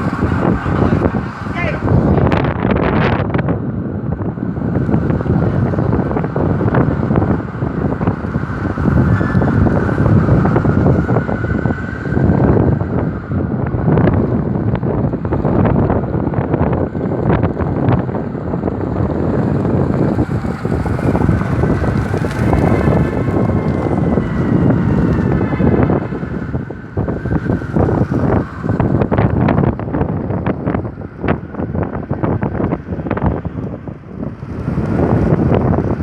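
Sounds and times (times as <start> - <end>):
street traffic: 0.0 - 36.0
wind buffeting microphone: 0.0 - 36.0.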